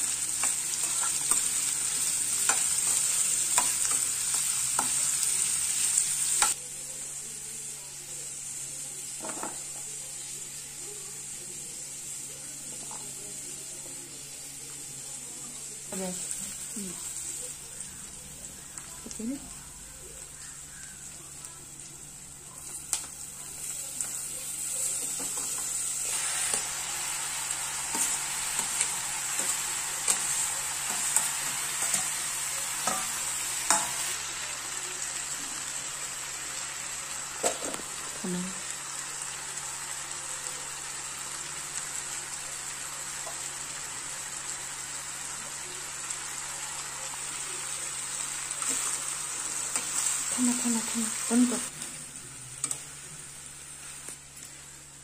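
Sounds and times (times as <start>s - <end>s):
onions and potatoes sizzling in oil: 0.0s - 55.0s.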